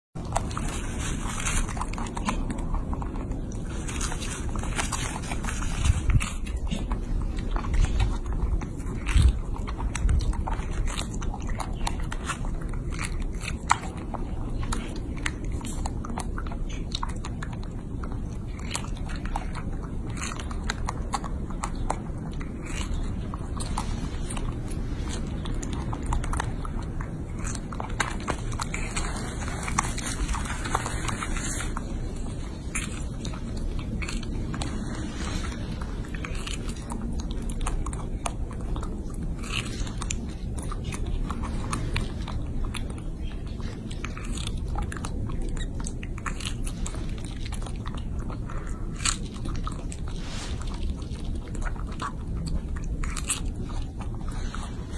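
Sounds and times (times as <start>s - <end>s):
monkey chewing strawberry: 0.1s - 54.9s
low rumble: 0.2s - 54.9s.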